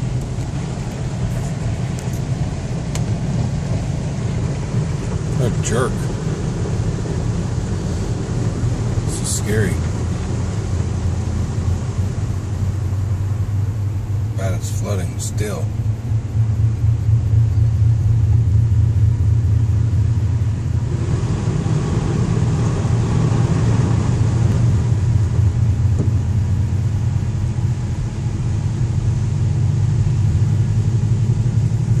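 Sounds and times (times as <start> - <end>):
car interior low rumble: 0.0 - 32.0.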